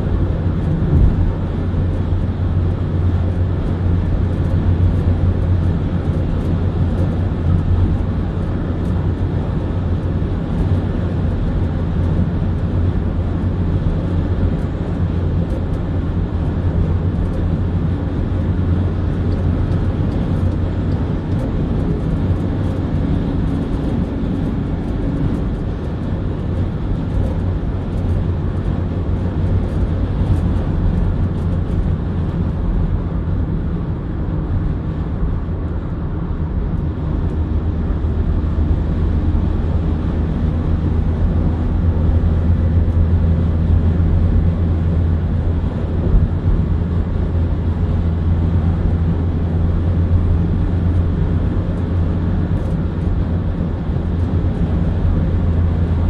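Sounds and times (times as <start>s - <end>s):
car road noise: 0.0s - 56.0s.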